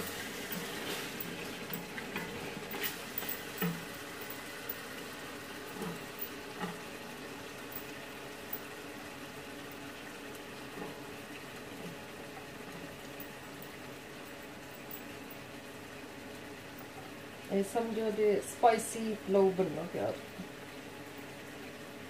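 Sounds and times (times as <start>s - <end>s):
gravy bubbling in a pot: 0.0s - 17.7s, 19.9s - 22.0s.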